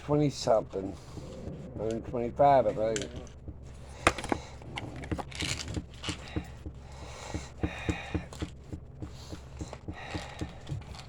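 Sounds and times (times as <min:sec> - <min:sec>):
light tapping and clicking: 0:00.0 - 0:11.0.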